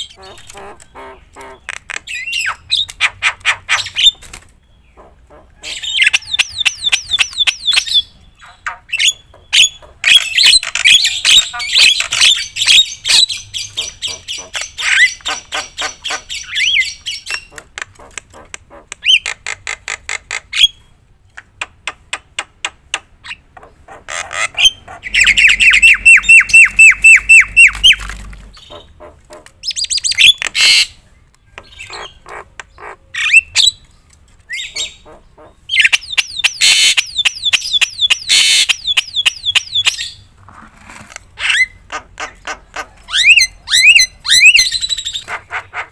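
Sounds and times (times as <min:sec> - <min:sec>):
bird singing and chattering: 0:00.0 - 0:40.3, 0:41.4 - 0:45.9.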